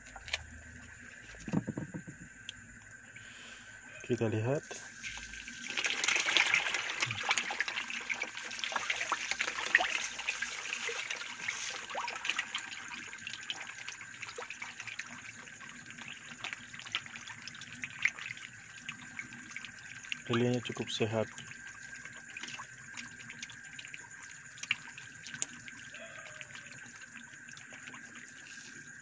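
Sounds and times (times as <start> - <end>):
fish splashing at water surface: 2.6 - 29.0.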